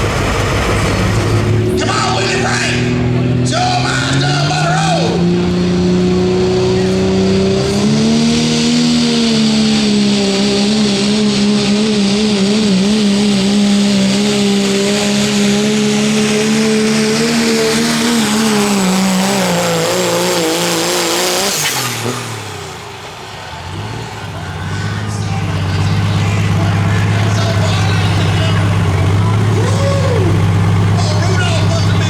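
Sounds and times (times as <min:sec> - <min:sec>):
diesel truck engine at full throttle: 0:00.0 - 0:32.0
low engine sound: 0:00.0 - 0:32.0.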